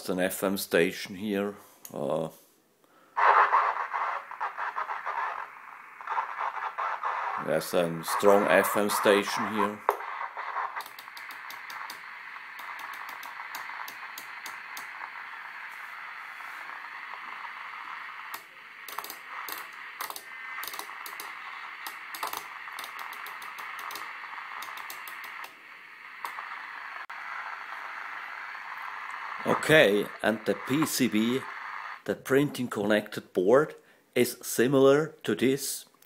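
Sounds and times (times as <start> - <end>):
radio static and garbled signal: 3.2 - 33.0.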